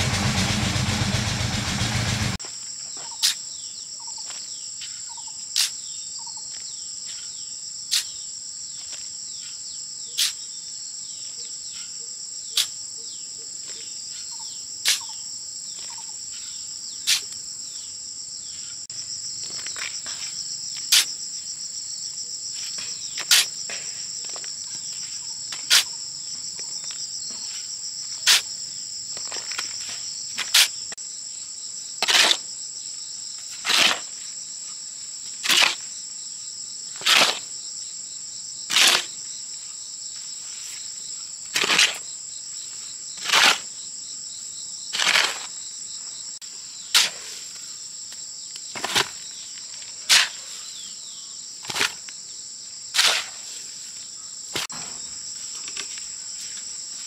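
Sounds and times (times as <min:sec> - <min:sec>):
high-pitched insect chorus: 0:02.4 - 0:57.0.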